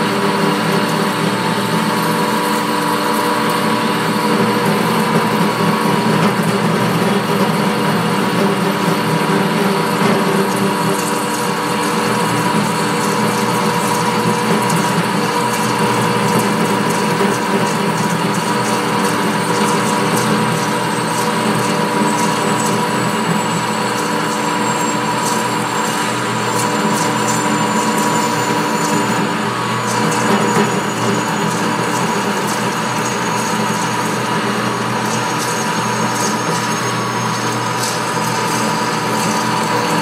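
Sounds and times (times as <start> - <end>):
metal lathe whining: 0.0 - 40.0.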